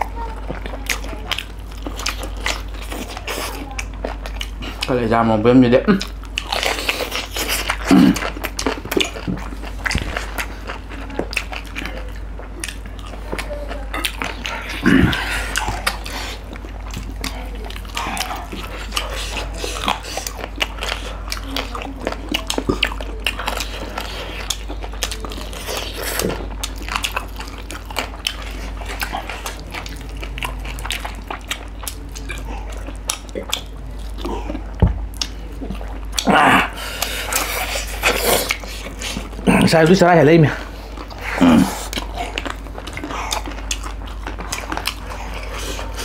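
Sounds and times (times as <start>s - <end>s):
chewing and mouth smacks: 0.0s - 5.3s, 5.9s - 46.0s.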